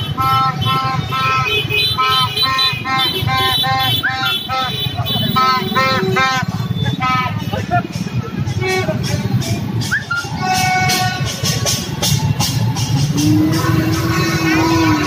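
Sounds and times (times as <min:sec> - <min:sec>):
motorbike engines rumbling: 0:00.0 - 0:15.0
motorbike horns honking: 0:00.0 - 0:15.0.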